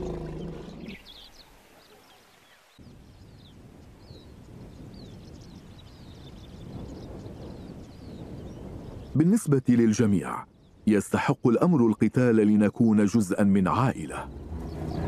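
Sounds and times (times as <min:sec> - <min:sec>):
small birds chirping: 0:00.0 - 0:13.1, 0:13.7 - 0:15.0.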